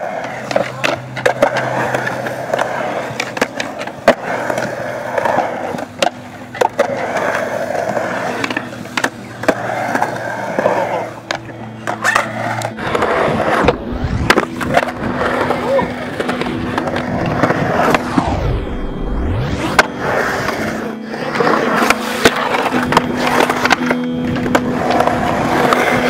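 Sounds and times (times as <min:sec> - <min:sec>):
skateboard clacking on coping: 0:00.0 - 0:18.1, 0:19.8 - 0:26.0
skateboard wheels rolling on concrete: 0:00.0 - 0:26.0
steady low hum: 0:00.0 - 0:26.0.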